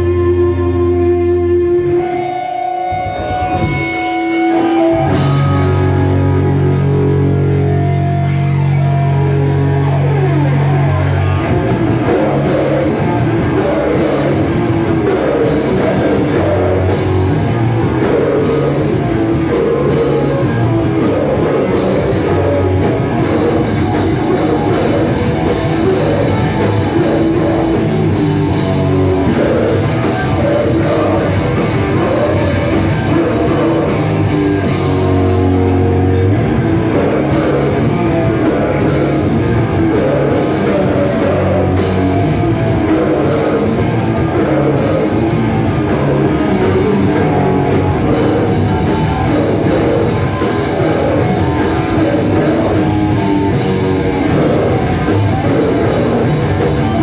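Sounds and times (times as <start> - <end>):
bass guitar: 0.0 - 57.0
distorted electric guitars: 0.0 - 57.0
drum kit: 0.0 - 57.0
person singing: 10.8 - 57.0.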